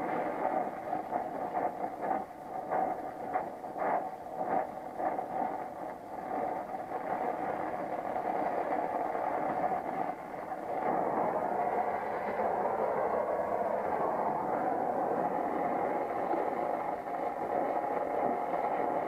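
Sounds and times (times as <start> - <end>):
flame crackles: 0.1 - 19.0.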